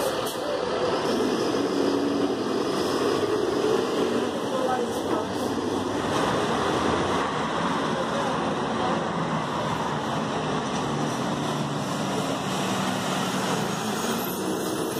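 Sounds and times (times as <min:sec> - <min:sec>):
bus diesel engine humming: 0:00.0 - 0:14.9
cars passing: 0:00.0 - 0:14.9
tyre and road noise: 0:00.0 - 0:14.9.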